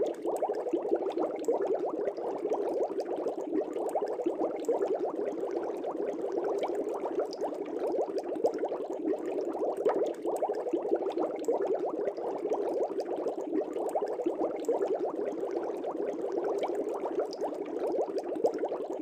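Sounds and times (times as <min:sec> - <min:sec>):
air bubbles in aquarium water: 0:00.0 - 0:19.0.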